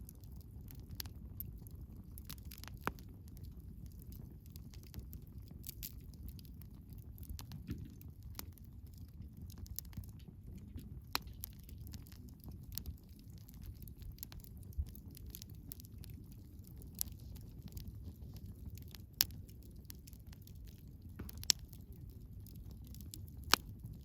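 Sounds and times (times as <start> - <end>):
firewood snapping and popping: 0.0 - 24.0
low rumble of flames: 0.0 - 24.0.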